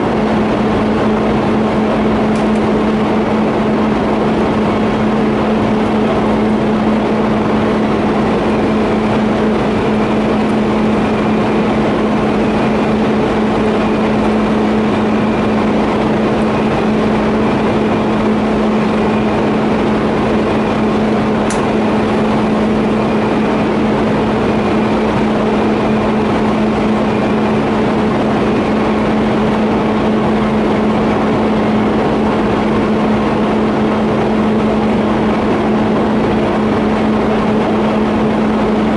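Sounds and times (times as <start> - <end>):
constant low hum: 0.0 - 38.9.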